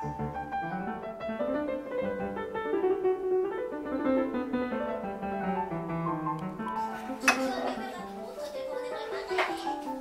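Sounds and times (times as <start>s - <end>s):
piano melody: 0.0s - 10.0s.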